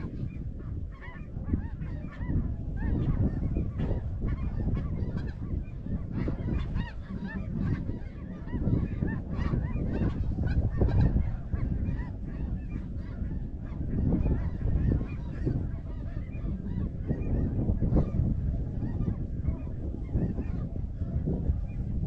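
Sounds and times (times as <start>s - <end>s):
geese calling: 0.0s - 21.0s.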